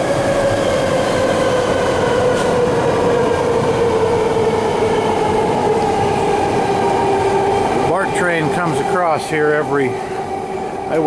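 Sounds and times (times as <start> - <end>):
train passing on rails: 0.0 - 11.0
train whine: 0.0 - 11.0.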